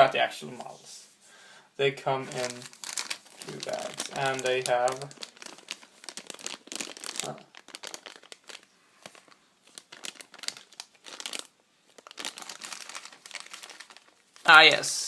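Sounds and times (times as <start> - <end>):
plastic bags crinkling: 2.3 - 14.8.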